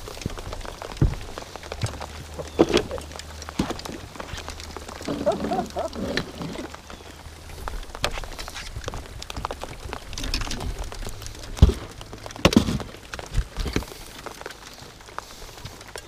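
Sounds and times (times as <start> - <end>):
knocks and clatter of gear: 0.0 - 16.0.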